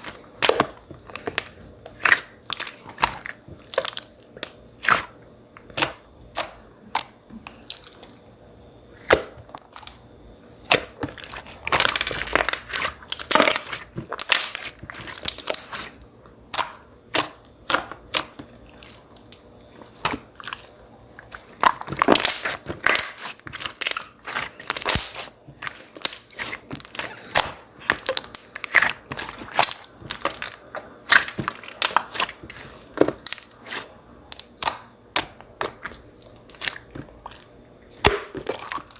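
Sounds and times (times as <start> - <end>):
slime crackling squelches: 0.0 - 38.9.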